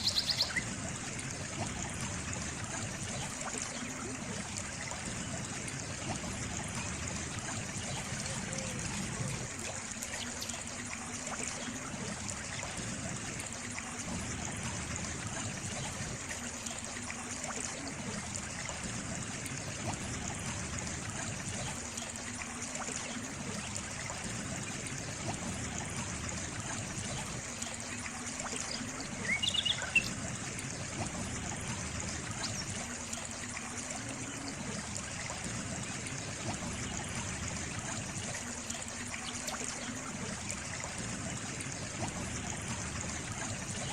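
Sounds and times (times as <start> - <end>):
stream trickling and babbling: 0.0 - 43.9.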